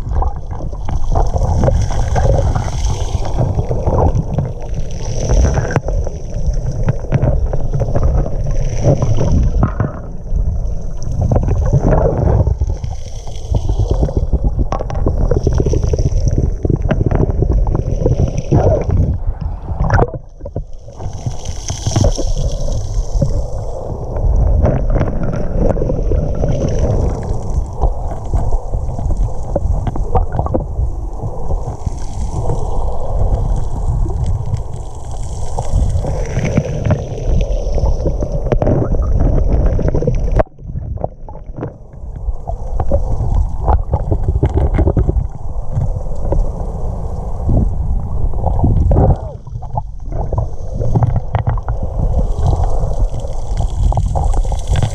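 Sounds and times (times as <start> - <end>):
underwater crackles: 0.0 - 54.9
underwater rumble and sloshing: 0.0 - 54.9.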